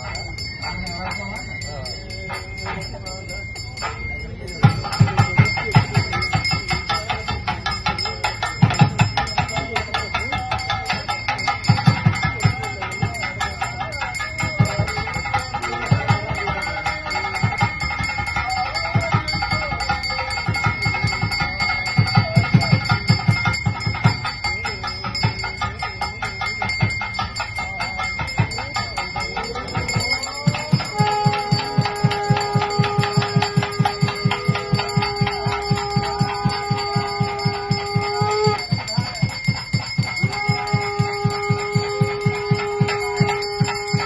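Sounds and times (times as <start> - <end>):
bells ringing: 0.0 - 44.0
fast even drum beat: 0.0 - 44.0
held wind instrument note: 0.0 - 44.0.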